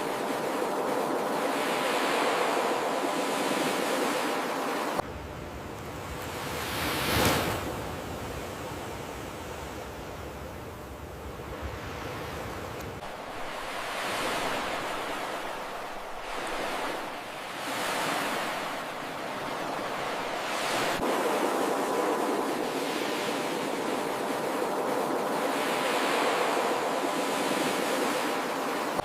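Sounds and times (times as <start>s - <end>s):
waves breaking on shore: 0.0s - 29.0s.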